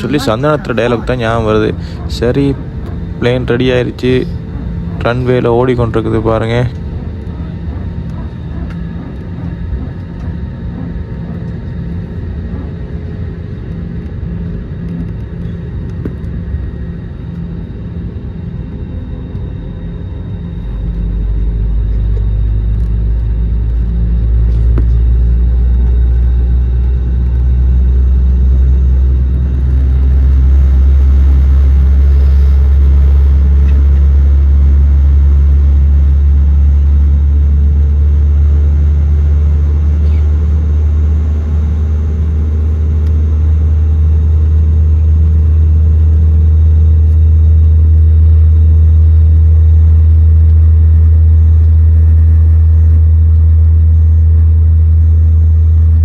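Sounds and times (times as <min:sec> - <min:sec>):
jet engines and wheels rumbling: 0:00.0 - 0:56.0.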